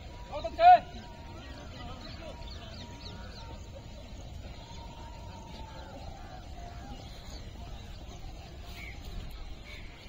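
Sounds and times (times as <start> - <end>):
faint distant calls: 0.0 - 10.0.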